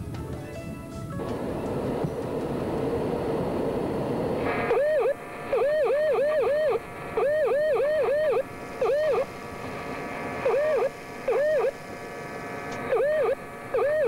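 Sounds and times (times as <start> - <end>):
radio rushing noise: 1.3 - 14.0.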